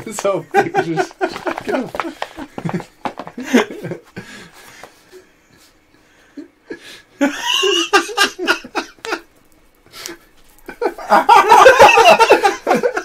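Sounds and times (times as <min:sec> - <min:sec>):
men laughing: 0:00.2 - 0:13.0.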